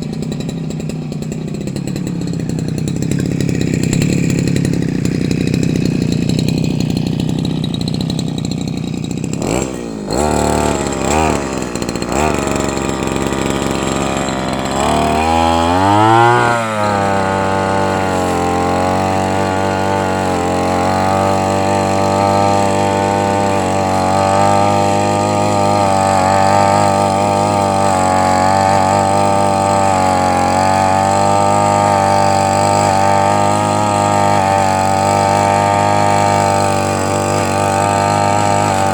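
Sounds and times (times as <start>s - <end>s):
small engine revving: 0.0s - 38.9s.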